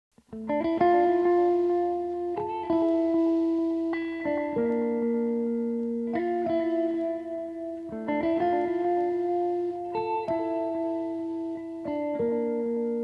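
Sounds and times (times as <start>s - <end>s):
guitar-like chords: 0.2s - 13.0s.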